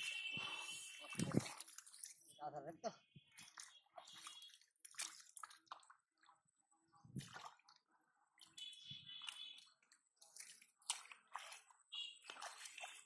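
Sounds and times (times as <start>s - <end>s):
hands sloshing through mud: 0.0s - 2.4s, 3.2s - 6.4s, 7.1s - 13.0s
small water splashes: 0.0s - 13.0s.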